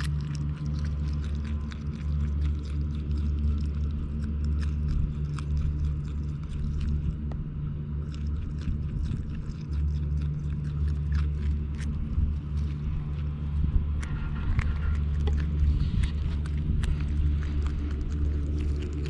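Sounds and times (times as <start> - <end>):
groundhogs crunching carrots: 0.0 - 19.0
steady low rumble: 0.0 - 19.0.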